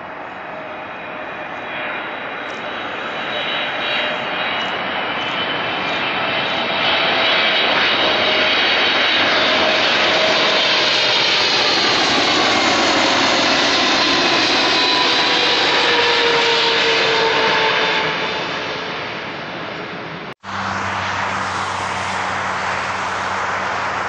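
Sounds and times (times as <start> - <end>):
jet engine roar overhead: 0.0 - 24.0.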